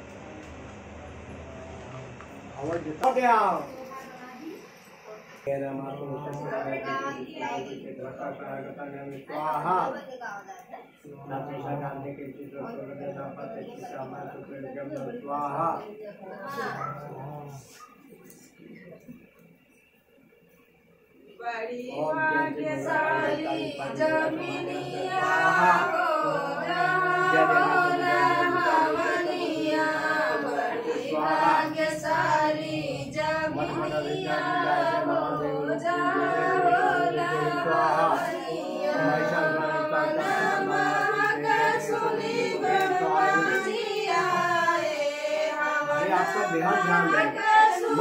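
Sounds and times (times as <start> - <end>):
group singing devotional song: 0.0 - 10.0, 11.0 - 18.4, 21.5 - 48.0.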